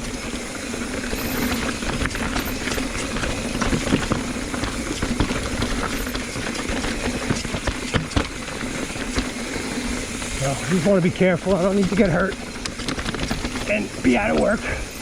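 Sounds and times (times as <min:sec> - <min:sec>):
bike tyres rumbling on dirt: 0:00.0 - 0:15.0
small clicks and rattles: 0:00.0 - 0:15.0.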